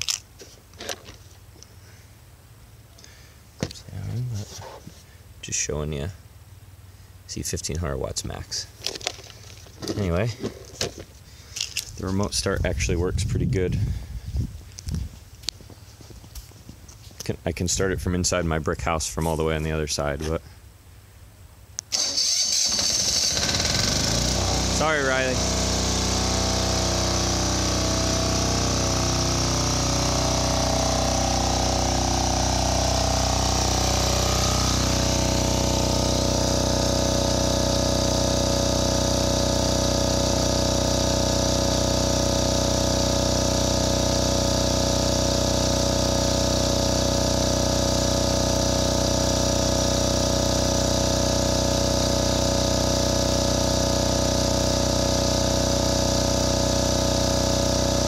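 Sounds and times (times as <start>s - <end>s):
diesel engine running generator: 0.0s - 20.8s, 21.8s - 58.0s.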